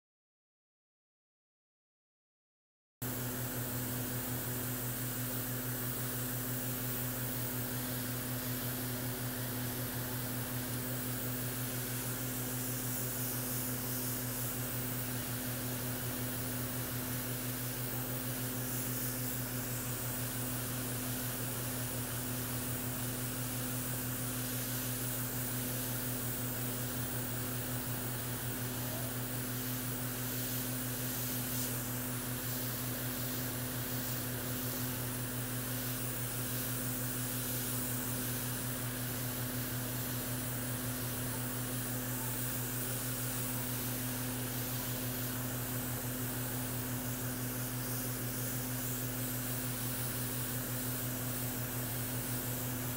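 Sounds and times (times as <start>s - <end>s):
airbrush spraying hiss: 3.0s - 52.9s.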